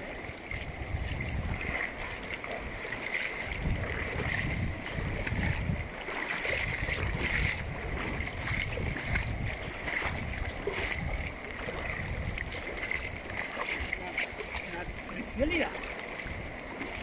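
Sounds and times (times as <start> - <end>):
river water running: 0.0 - 17.0
wind buffeting microphone: 0.0 - 17.0.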